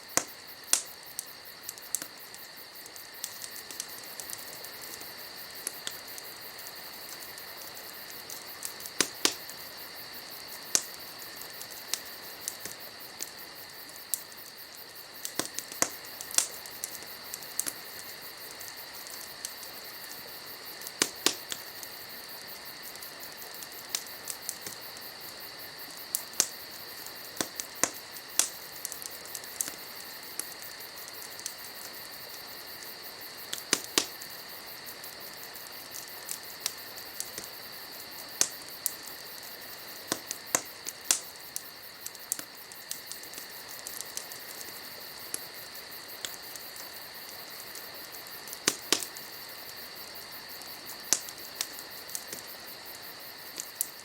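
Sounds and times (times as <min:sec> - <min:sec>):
campfire crackling and popping: 0:00.0 - 0:54.0
night insects trilling: 0:00.0 - 0:54.0.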